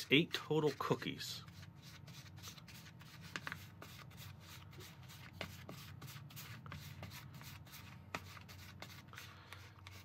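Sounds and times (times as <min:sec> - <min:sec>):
plastic spoon scraping dry mix: 0:00.0 - 0:10.0.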